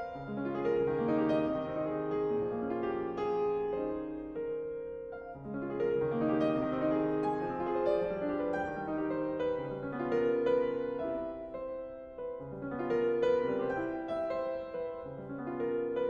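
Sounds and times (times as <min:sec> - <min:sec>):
solo piano classical piece: 0:00.0 - 0:16.0.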